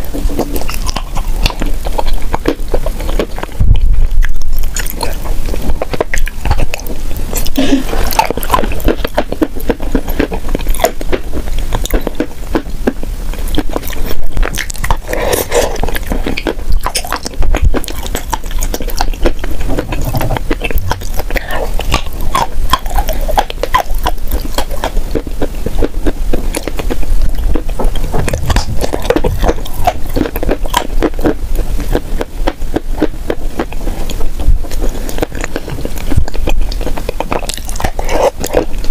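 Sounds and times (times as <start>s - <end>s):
crunchy chewing: 0.0s - 38.9s
wet mouth sounds: 0.0s - 38.9s.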